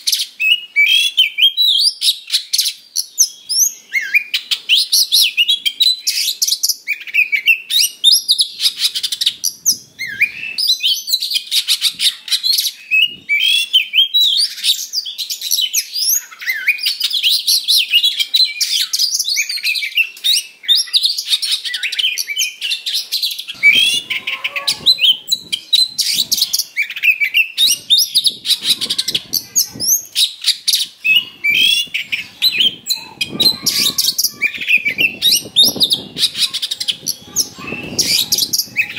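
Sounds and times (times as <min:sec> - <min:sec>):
songbird singing whistles and trills: 0:00.0 - 0:38.9.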